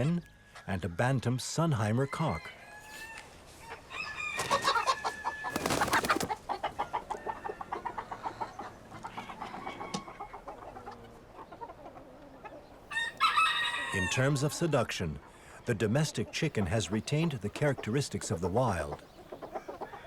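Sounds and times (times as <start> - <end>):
chickens clucking and squawking: 2.0 - 20.0.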